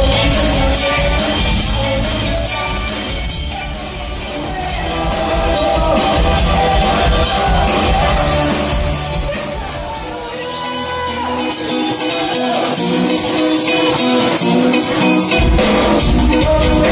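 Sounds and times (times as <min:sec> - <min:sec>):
band playing music: 0:00.0 - 0:16.9.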